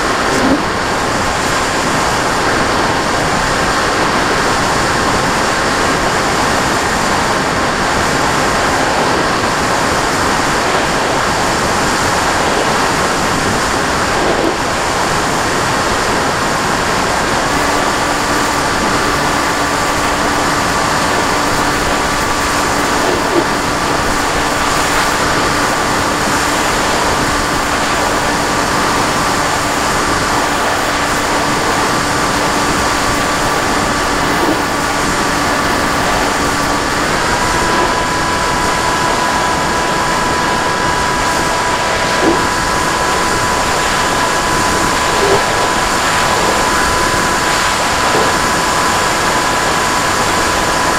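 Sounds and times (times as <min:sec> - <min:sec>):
thin motor whine: 0:00.0 - 0:50.9
wind and propeller noise: 0:00.0 - 0:50.9.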